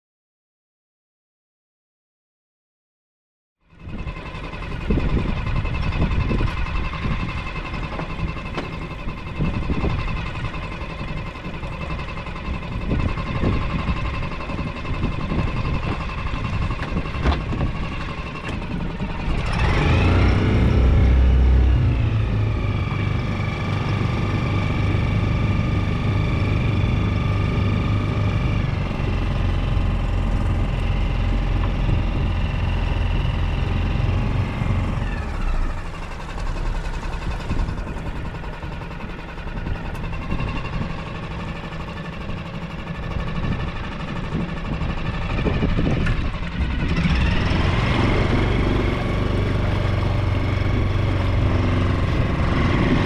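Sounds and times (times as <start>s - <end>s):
small boat engine running: 3.6s - 53.0s.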